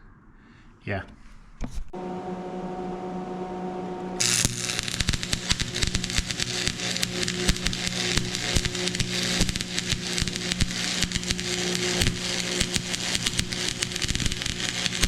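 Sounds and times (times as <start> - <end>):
arc welder humming: 1.9 - 15.0
welding arc crackling: 2.0 - 15.0.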